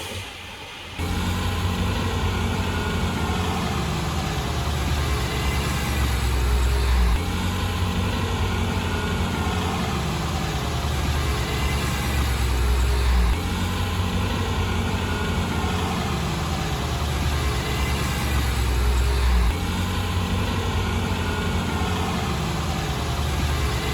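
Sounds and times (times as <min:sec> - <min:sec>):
heavy diesel engine running: 0:01.0 - 0:23.9.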